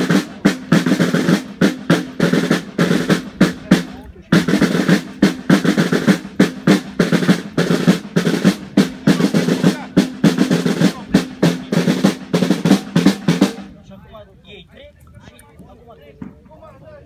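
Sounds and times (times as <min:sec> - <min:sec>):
snare drums marching cadence: 0:00.0 - 0:13.8.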